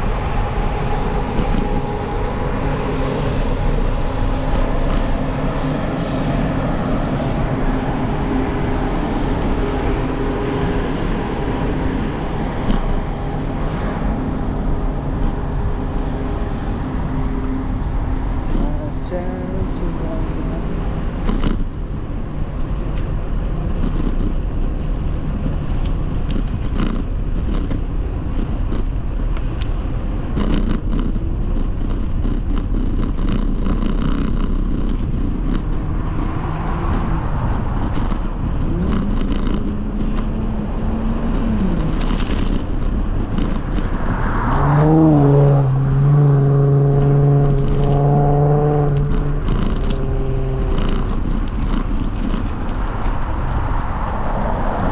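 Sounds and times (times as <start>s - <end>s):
low rumble of wind: 0.0s - 54.9s
vehicle and road noise: 0.0s - 54.9s.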